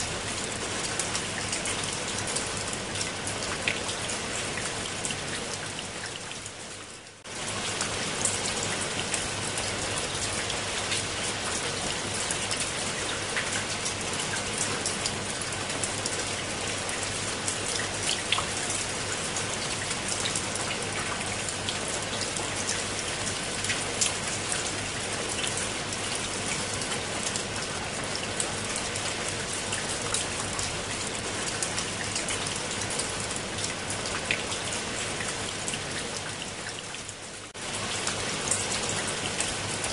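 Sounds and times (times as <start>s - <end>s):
rain on stone and leaves: 0.0s - 39.9s.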